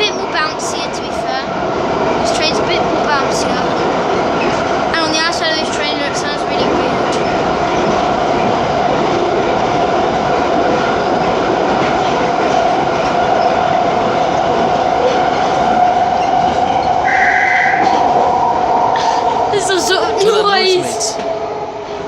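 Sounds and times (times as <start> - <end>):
steady train whine: 0.0 - 22.0
train rail running noise: 0.0 - 22.0.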